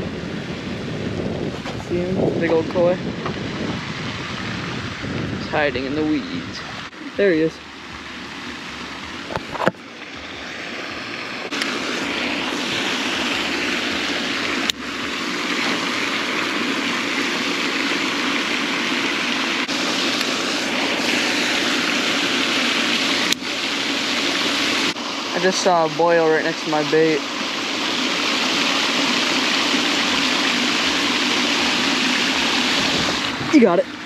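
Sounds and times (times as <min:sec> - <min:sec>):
fountain spray splashing on water: 0:02.7 - 0:34.0.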